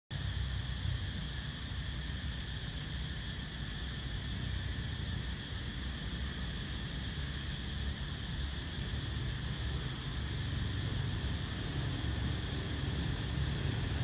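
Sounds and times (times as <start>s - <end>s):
insects droning: 0.1s - 14.0s.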